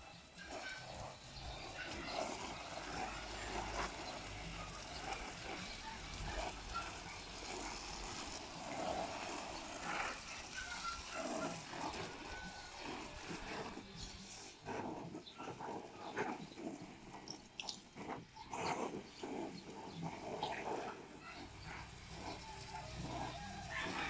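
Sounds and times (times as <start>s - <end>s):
garden hose spraying on plants: 0.0s - 24.0s.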